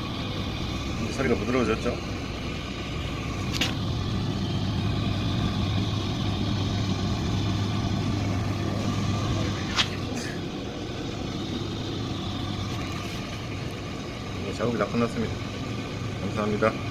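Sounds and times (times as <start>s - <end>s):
clothes dryer humming: 0.0s - 16.9s.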